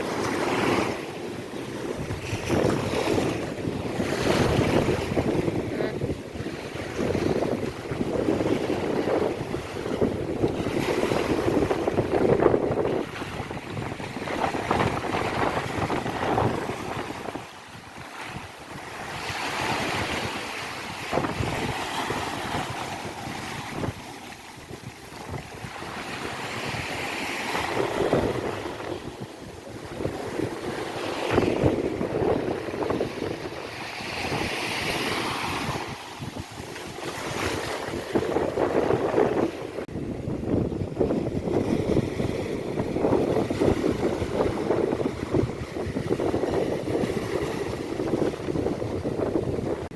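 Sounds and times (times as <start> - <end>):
ocean waves breaking: 0.0 - 49.9
wind buffeting microphone: 0.0 - 49.9.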